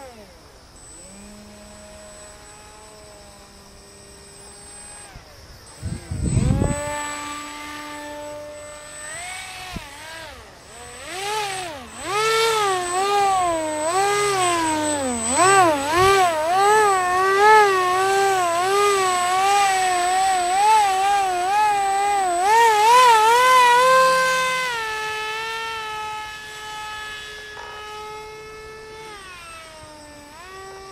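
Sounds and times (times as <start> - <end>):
model plane motor whining: 0.0 - 30.9.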